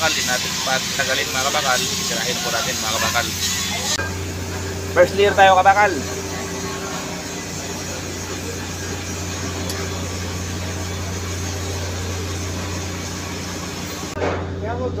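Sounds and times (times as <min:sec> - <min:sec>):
mechanical hum with low drone: 0:00.0 - 0:15.0.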